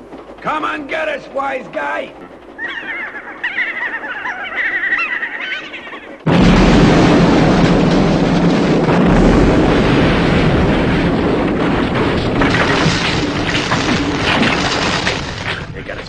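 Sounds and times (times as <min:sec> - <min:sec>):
falling debris clattering: 0:00.0 - 0:16.0
rock collapsing roar: 0:02.4 - 0:16.0.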